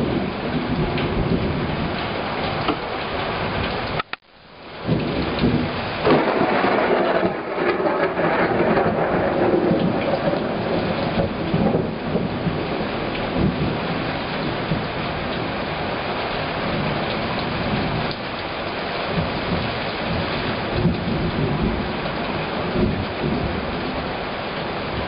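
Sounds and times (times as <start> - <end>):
rolling thunder: 0.0 - 2.7, 4.8 - 18.2, 19.1 - 25.0
heavy rain: 0.0 - 25.0.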